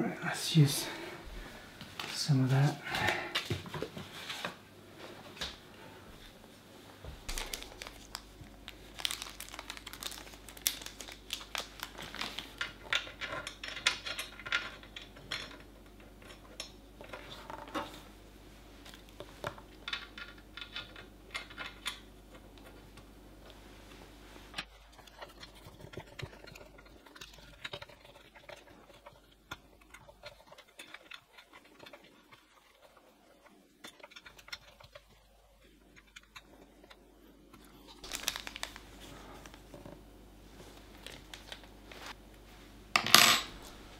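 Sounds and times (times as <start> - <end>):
rustling crinkling handling noise: 0.5 - 21.7, 22.3 - 42.8.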